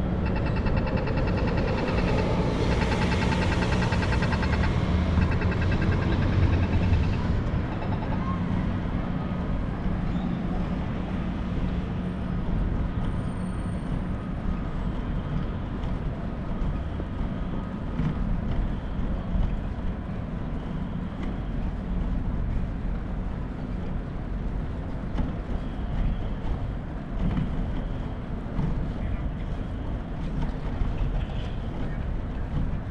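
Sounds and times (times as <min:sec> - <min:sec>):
traffic rumble: 0:00.0 - 0:32.9
wind: 0:00.0 - 0:32.9.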